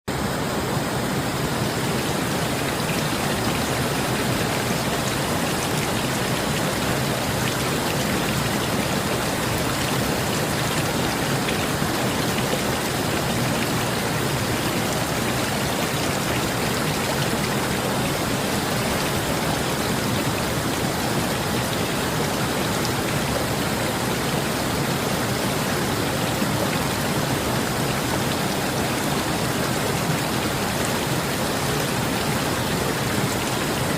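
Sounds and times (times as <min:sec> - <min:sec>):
rain falling: 0:00.1 - 0:33.9
river flowing: 0:00.1 - 0:33.9.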